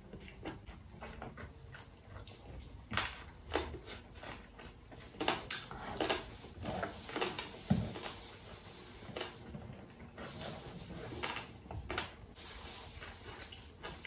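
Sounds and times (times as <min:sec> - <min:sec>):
chewing and smacking: 0:00.0 - 0:14.0.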